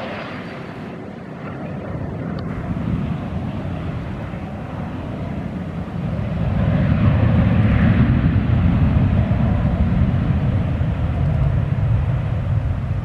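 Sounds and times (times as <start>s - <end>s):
airliner engine rumble: 0.0s - 13.0s.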